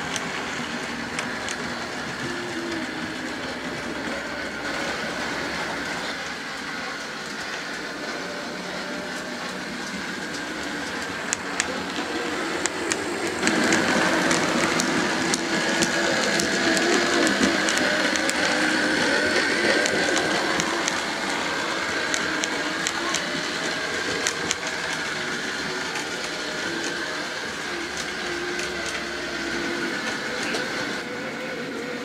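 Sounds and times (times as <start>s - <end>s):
model trains whirring: 0.0s - 32.0s.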